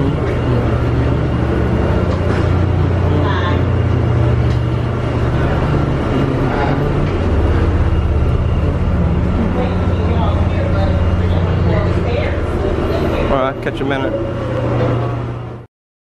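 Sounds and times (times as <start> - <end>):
faint voices: 0.0 - 15.6
ferry engine low drone: 0.0 - 15.7.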